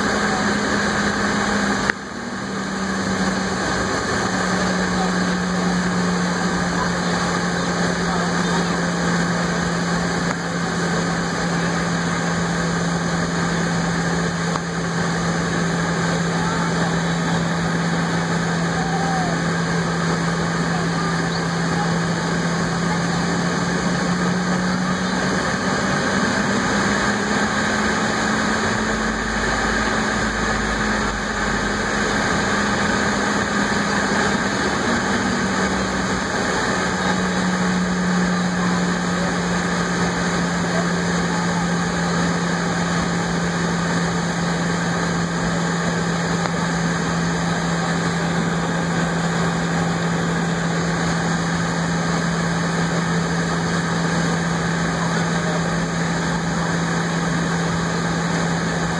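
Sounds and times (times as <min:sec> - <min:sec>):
jet engine drone in cabin: 0:00.0 - 0:58.9.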